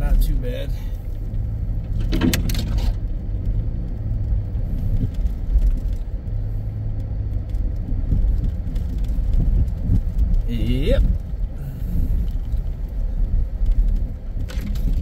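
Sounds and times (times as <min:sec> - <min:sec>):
vehicle engine and tyres rumbling: 0:00.0 - 0:15.0.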